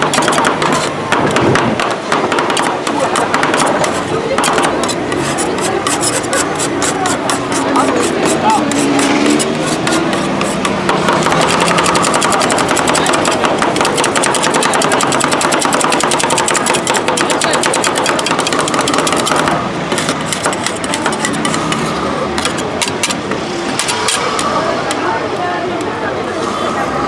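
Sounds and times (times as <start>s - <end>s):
metal spatulas tapping on plate: 0.0s - 21.8s.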